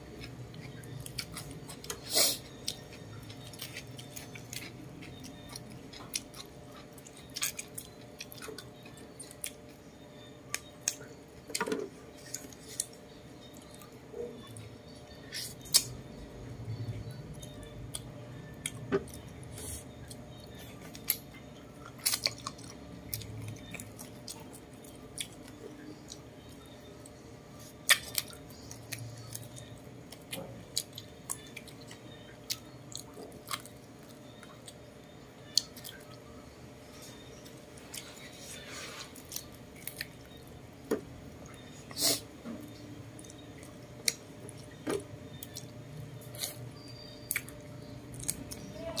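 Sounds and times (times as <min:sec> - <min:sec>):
person chewing meat: 0:00.0 - 0:36.2, 0:36.9 - 0:40.7, 0:41.3 - 0:48.7
low steady background noise: 0:00.0 - 0:49.0.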